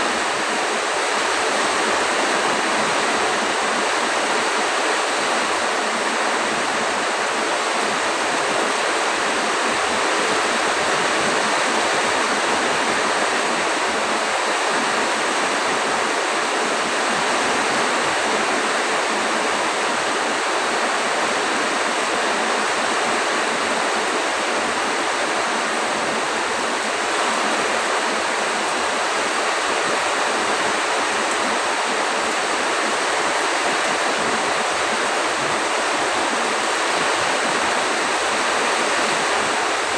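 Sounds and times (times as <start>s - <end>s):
heavy rain: 0.0s - 39.9s
wind: 0.0s - 39.9s.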